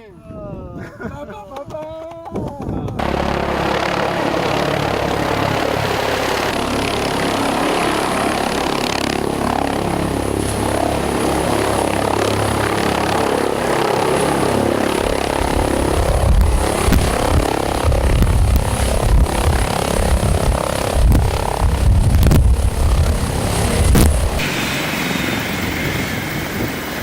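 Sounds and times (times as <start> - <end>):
helicopter rotor and engine drone: 2.9 - 27.0
high turbine whine: 3.0 - 27.0.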